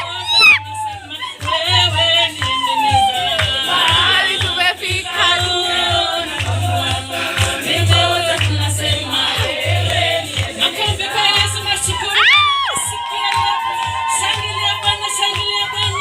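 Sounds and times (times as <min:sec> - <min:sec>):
group of voices singing: 0:00.0 - 0:16.0
heavy bass beat: 0:00.0 - 0:16.0.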